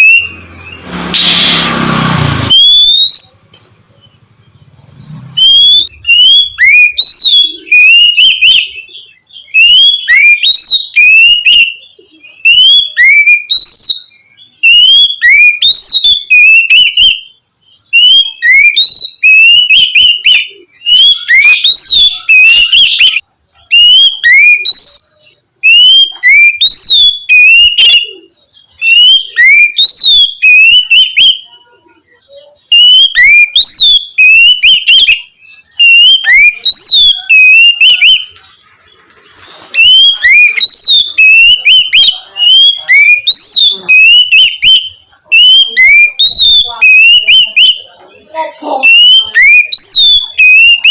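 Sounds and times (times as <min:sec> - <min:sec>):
bird singing whistled song: 0:00.0 - 0:01.7, 0:02.5 - 0:03.4, 0:04.0 - 0:31.6, 0:32.2 - 0:38.4, 0:39.7 - 0:47.9, 0:48.7 - 0:50.9.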